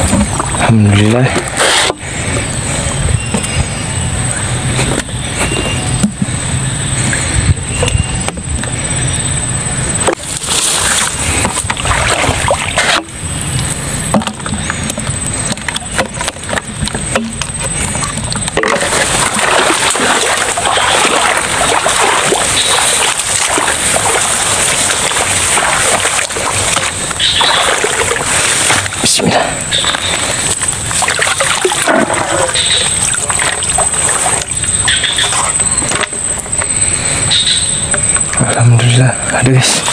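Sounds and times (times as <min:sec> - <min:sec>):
grass rustling: 0:00.0 - 0:38.3
water splashing and sloshing: 0:00.0 - 0:38.6.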